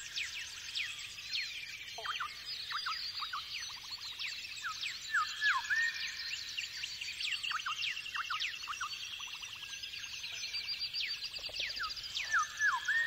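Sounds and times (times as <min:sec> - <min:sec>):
bird trill: 0:00.0 - 0:13.0
birds chirping and twittering: 0:00.0 - 0:13.0
downward-sweeping bird whistles: 0:00.0 - 0:13.0.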